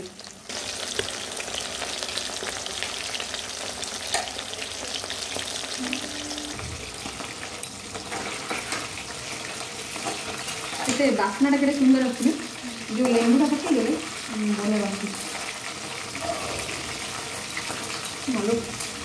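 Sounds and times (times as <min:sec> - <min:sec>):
chicken deep-frying in hot oil: 0:00.0 - 0:19.0.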